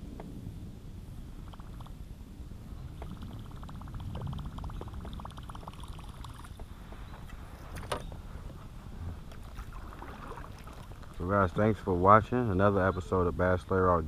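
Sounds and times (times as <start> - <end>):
low rumble of kayak on water: 0.0 - 14.0.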